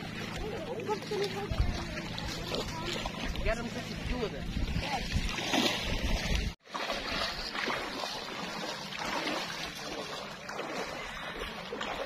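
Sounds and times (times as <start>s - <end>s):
seawater lapping and splashing: 0.0s - 12.0s.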